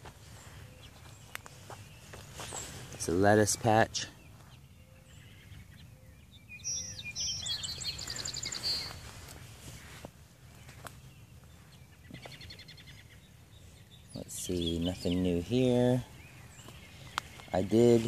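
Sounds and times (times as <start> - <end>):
songbird trills: 0.0 - 18.0.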